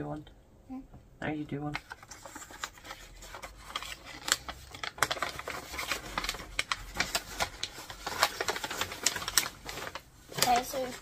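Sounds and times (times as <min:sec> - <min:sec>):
tissue paper rustling and crinkling: 0:01.8 - 0:11.0.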